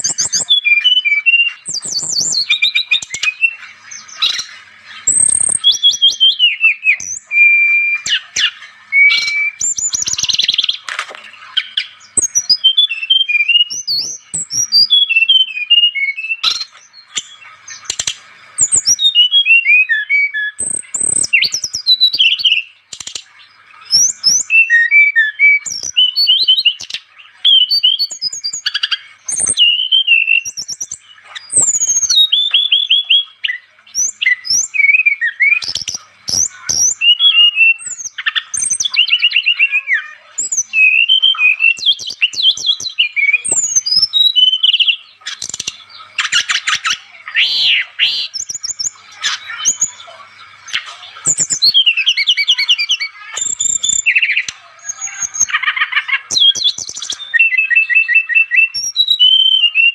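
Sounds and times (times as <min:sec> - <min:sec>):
bird singing whistled phrases: 0:00.0 - 0:59.9.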